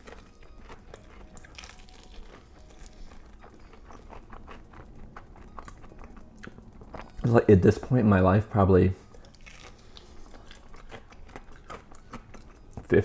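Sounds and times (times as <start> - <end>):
person chewing crispy chicken: 0.0 - 7.3, 9.1 - 13.0.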